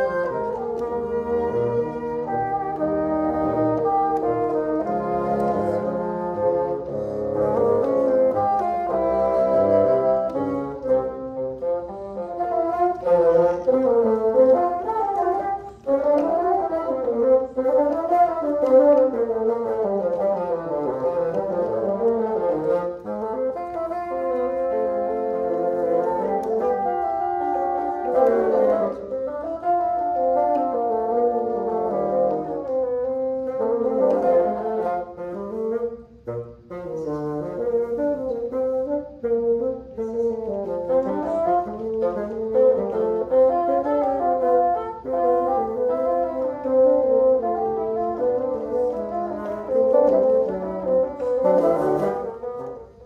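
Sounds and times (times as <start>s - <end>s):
bassoon quartet playing: 0.0s - 53.0s.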